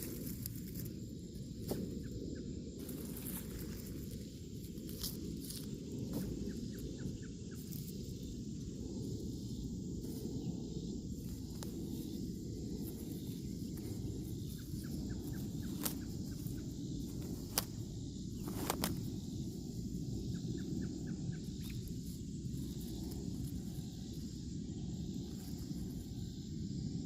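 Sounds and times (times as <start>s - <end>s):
faint rapid chirping: 0.0s - 27.0s
steady low rumble: 0.0s - 27.0s.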